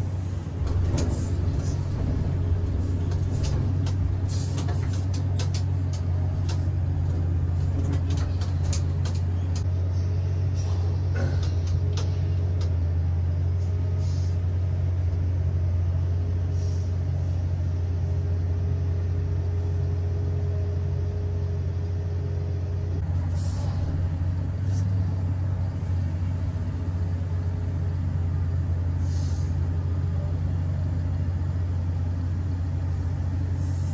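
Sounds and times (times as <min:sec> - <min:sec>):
excavator engine drone: 0:00.0 - 0:33.9.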